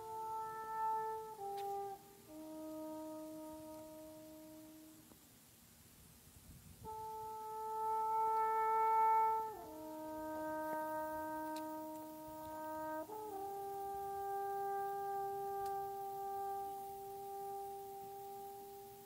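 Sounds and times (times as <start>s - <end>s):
horn playing long held notes: 0.0s - 5.2s, 6.7s - 19.0s.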